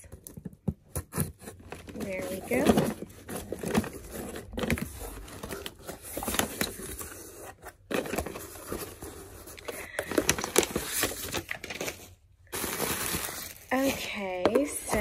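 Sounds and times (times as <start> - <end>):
paper rustling: 0.6 - 15.0.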